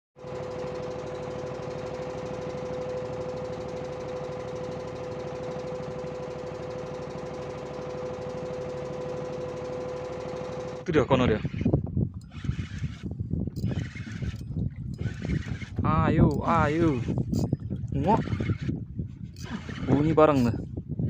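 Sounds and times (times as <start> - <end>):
boat engine knocking: 0.2 - 20.6.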